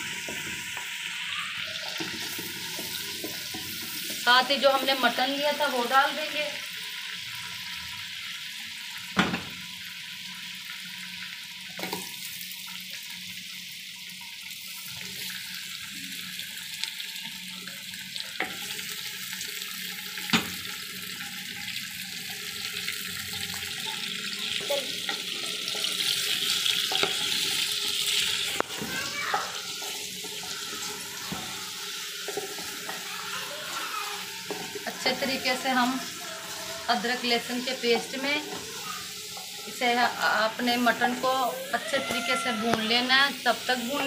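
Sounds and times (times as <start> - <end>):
meat sizzling in hot fat: 0.0 - 44.0.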